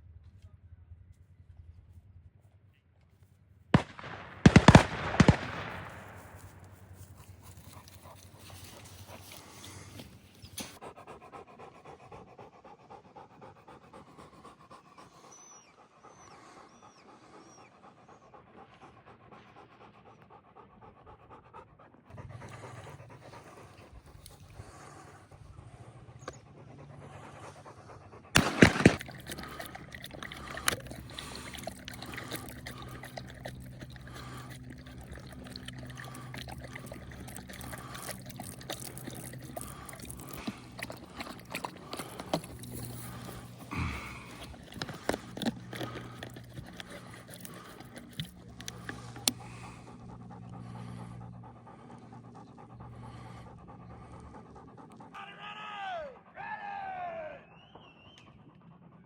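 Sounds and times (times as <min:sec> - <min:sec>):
dog panting hard: 0:04.4 - 0:55.2, 0:56.1 - 0:56.4, 0:57.5 - 0:59.0.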